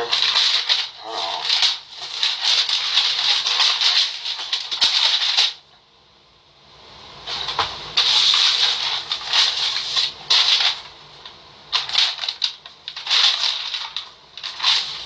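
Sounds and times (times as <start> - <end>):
paper rustling and crinkling: 0.0 - 5.6, 7.3 - 10.9, 11.7 - 15.0.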